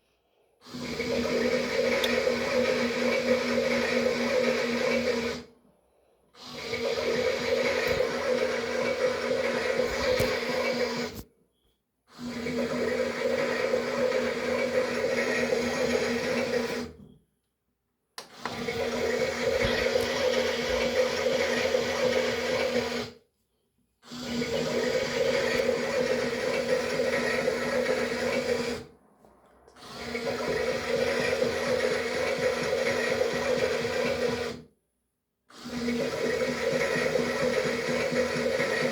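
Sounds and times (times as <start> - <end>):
toy washing machine motor: 0.6 - 5.5, 6.4 - 11.2, 12.1 - 17.0, 18.2 - 23.2, 24.0 - 28.9, 29.8 - 34.7, 35.5 - 38.9.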